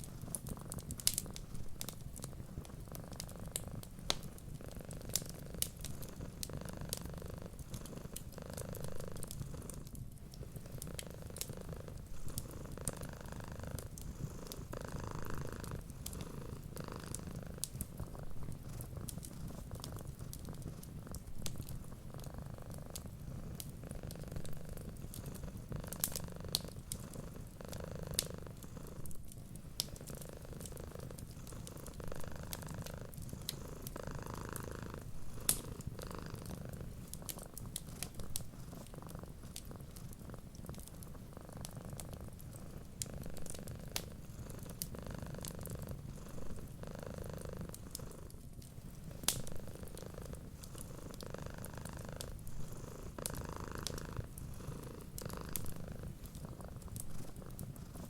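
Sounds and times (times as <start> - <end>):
wood fire crackling: 0.0 - 46.8, 47.7 - 58.0
cat purring: 0.0 - 58.0.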